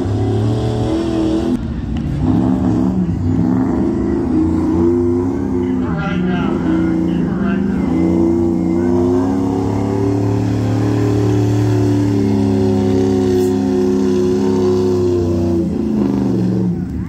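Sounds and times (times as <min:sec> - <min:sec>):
truck engine at high revs: 0:00.0 - 0:17.0.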